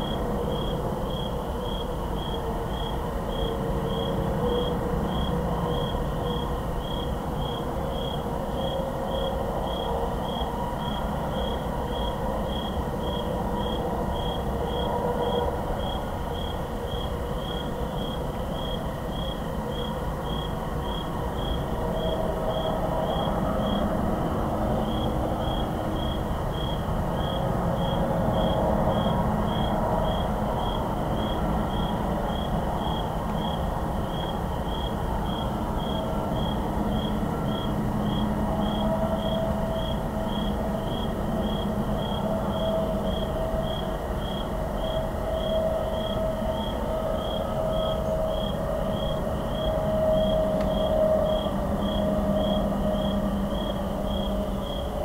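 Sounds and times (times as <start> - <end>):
cricket chirping: 0.0 - 55.0
distant highway traffic: 0.0 - 55.0.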